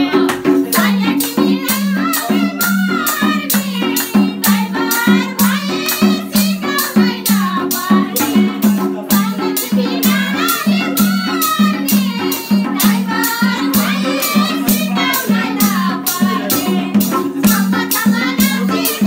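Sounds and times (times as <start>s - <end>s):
percussion beat: 0.0s - 19.0s
wavering melody: 0.0s - 19.0s.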